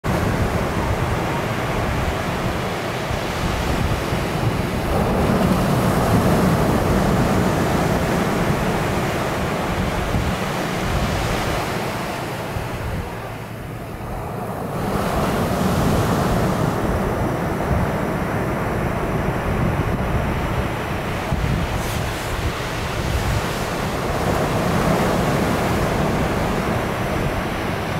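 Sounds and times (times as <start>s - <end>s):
ocean surf breaking on beach: 0.0s - 27.9s
wind buffeting microphone: 0.0s - 27.9s.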